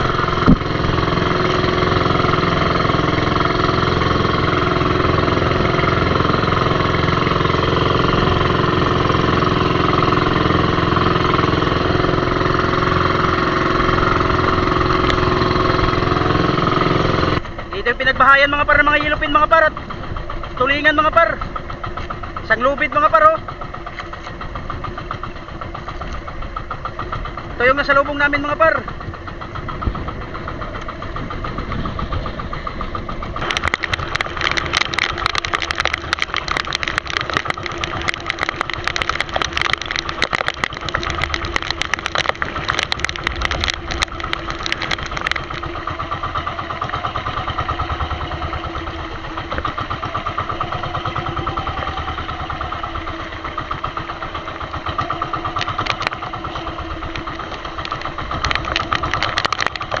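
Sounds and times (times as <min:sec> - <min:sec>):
boat engine chugging: 0:00.0 - 1:00.0.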